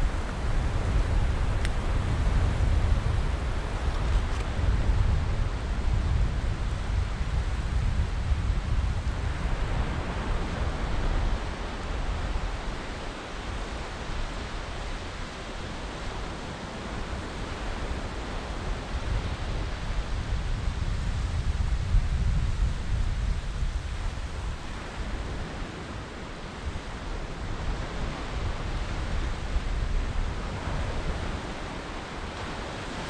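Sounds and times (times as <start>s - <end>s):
wind gusting on microphone: 0.0s - 33.0s.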